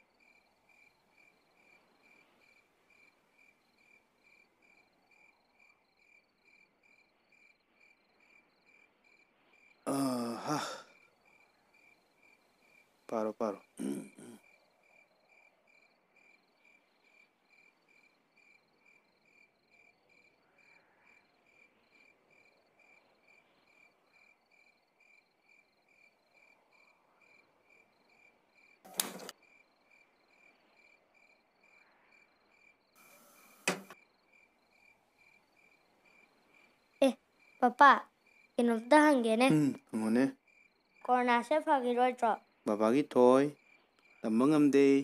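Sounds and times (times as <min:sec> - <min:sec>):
cricket chirping: 0:00.0 - 0:45.0.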